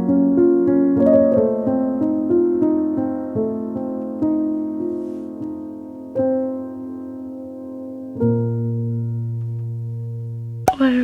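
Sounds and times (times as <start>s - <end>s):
soft piano chord: 0.0s - 10.7s.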